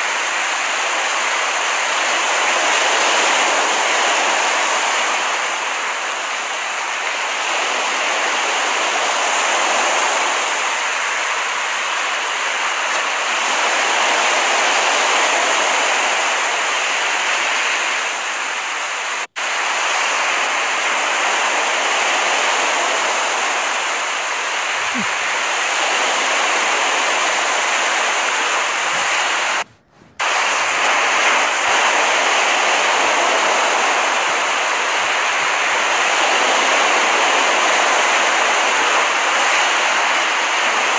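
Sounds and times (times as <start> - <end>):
ocean waves washing: 0.0 - 40.9.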